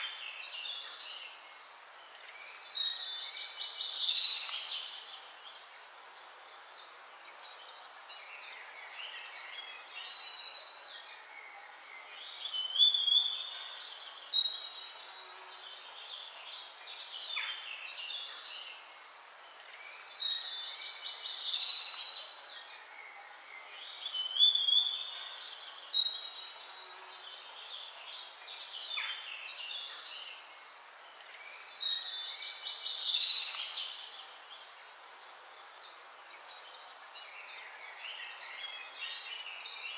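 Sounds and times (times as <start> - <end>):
whistled bird song: 0.0 - 15.0, 15.9 - 26.9, 31.4 - 39.9.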